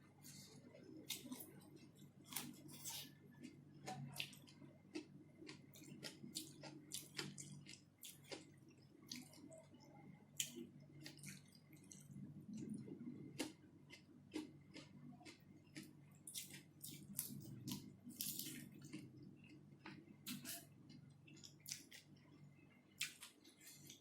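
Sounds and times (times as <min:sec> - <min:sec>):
low steady hum: 0:00.0 - 0:24.0
person chewing food: 0:00.2 - 0:24.0.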